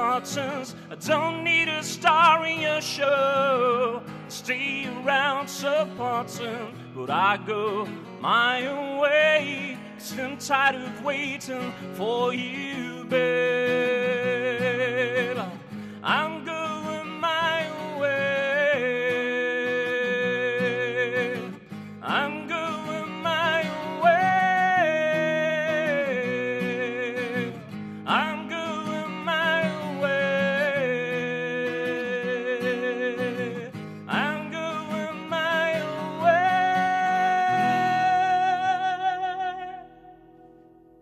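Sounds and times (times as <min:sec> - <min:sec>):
man singing: 0:00.0 - 0:40.6
acoustic guitar strumming: 0:00.0 - 0:41.0.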